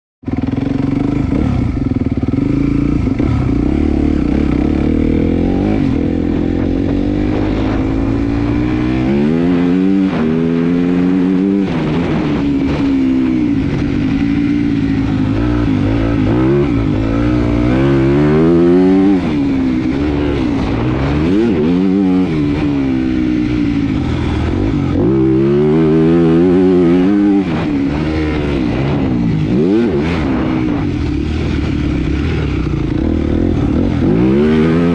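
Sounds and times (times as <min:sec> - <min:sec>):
motocross bike engine revving: 0:00.3 - 0:34.9.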